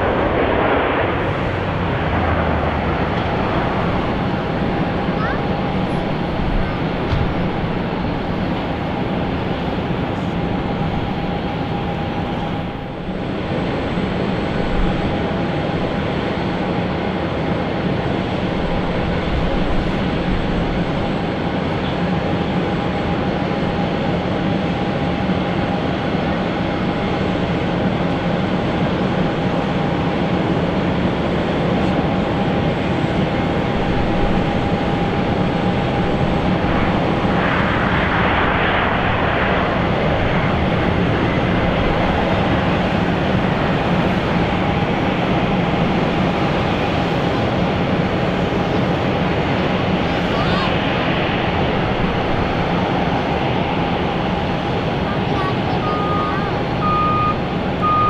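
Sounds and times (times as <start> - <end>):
airliner engines roaring: 0.0 - 58.0
engine whine: 0.0 - 58.0.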